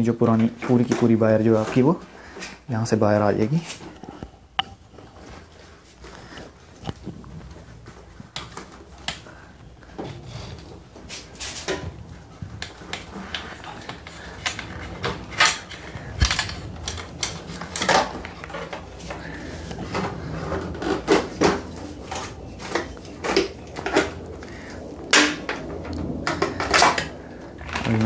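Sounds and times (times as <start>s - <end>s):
clicks rattles and scrapes: 0.0s - 2.6s, 3.6s - 28.0s.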